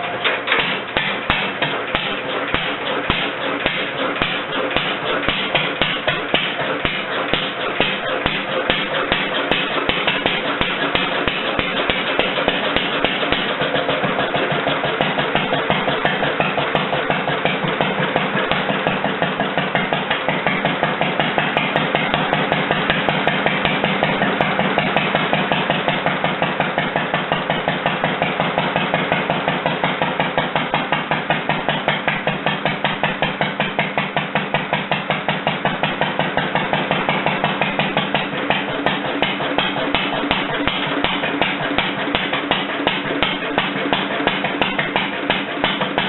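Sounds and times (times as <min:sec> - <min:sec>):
stationary engine running: 0:00.0 - 0:46.0.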